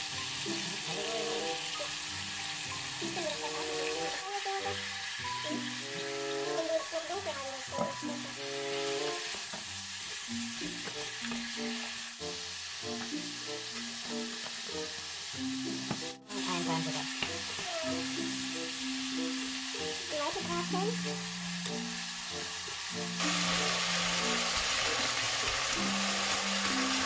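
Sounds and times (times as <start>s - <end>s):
background music: 0.0s - 27.0s
food sizzling in a pan: 0.0s - 27.0s.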